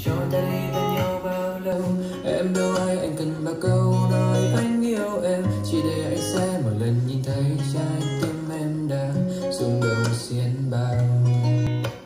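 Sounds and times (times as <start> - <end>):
guitar song through a speaker: 0.0 - 12.0.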